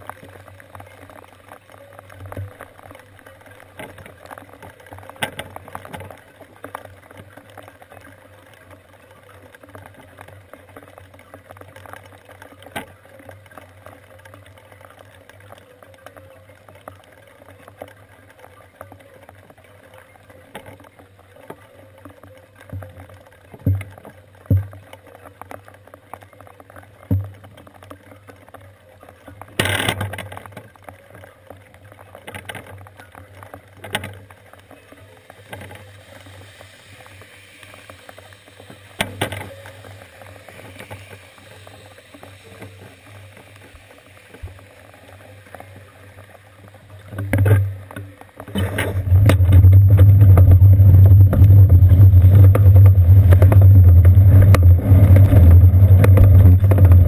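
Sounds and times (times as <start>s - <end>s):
raindrops ticking on camera: 0.0s - 57.0s
steady rain falling: 0.0s - 57.0s.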